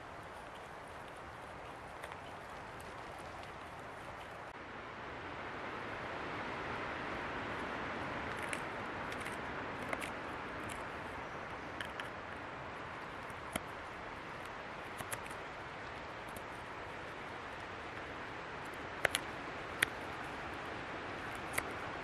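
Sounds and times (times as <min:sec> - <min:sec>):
wind gusting through trees: 0:00.0 - 0:22.0.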